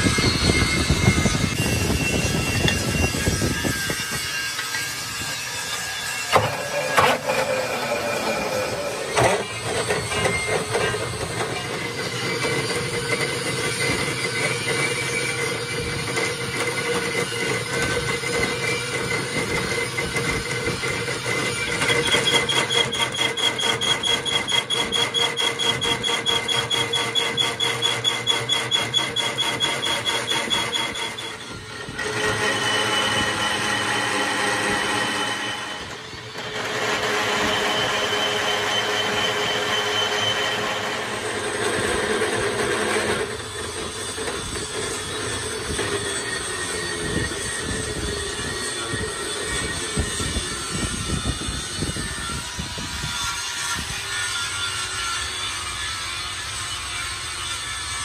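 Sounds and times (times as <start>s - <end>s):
lathe tool squealing on steel: 0.0s - 58.0s.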